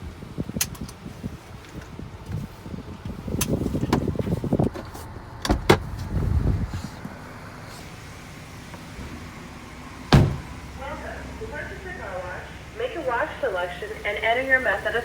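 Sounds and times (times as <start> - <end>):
car low rumble: 0.0 - 15.0.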